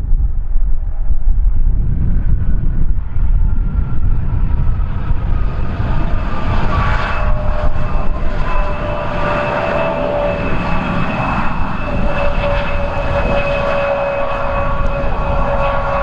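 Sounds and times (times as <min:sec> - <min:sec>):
airliner engines whining: 0:00.0 - 0:16.0
wind on microphone: 0:00.0 - 0:16.0.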